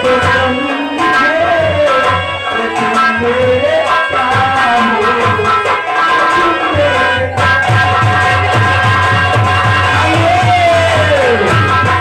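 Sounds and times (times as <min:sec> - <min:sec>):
drum beats: 0:00.0 - 0:12.0
instrumental backing: 0:00.0 - 0:12.0.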